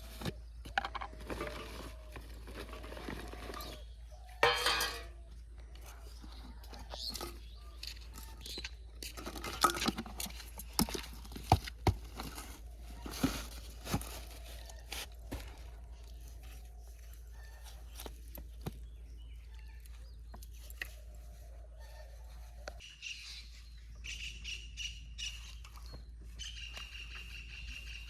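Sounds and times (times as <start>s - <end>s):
rustling and crinkling: 0.0s - 24.0s.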